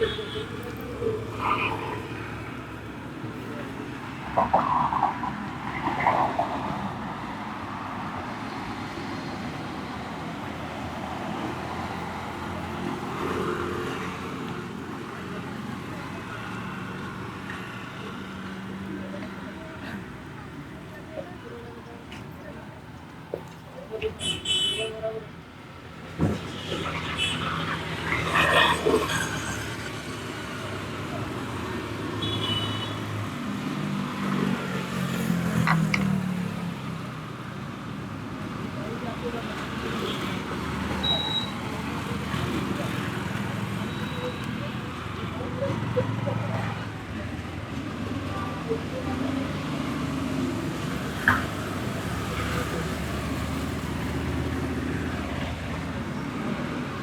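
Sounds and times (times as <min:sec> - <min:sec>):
steady street hum: 0:00.0 - 0:57.0
traffic passing: 0:00.0 - 0:57.0.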